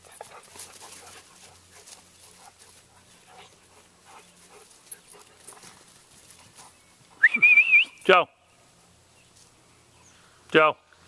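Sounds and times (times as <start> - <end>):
dogs rustling on grass: 0.0 - 7.2, 8.5 - 11.0.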